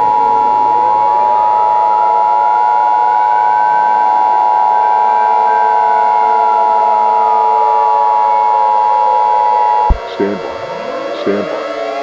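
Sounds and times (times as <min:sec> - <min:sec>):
siren rising and falling: 0:00.0 - 0:10.0.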